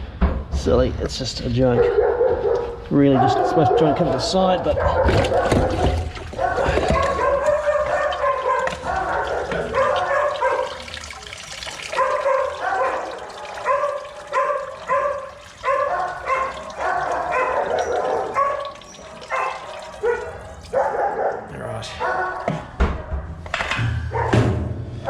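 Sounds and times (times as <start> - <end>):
dogs barking: 1.6 - 23.4, 24.0 - 25.0.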